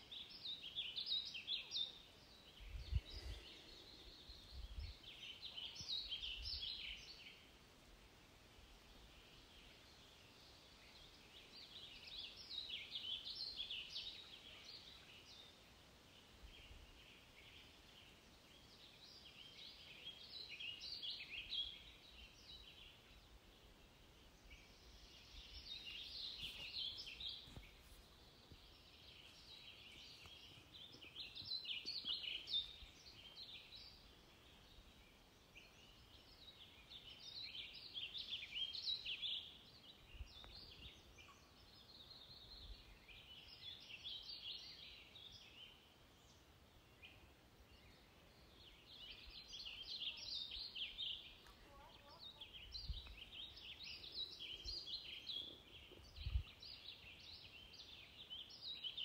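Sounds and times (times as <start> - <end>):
background hiss: 0.0 - 59.0
songbird chirping: 0.0 - 59.0.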